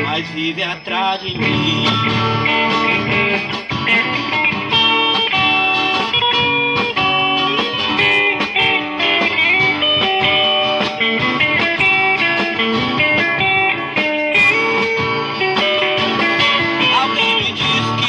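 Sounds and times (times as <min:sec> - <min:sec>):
lead guitar with bent notes: 0:00.0 - 0:18.0
live band accompaniment: 0:00.0 - 0:18.0.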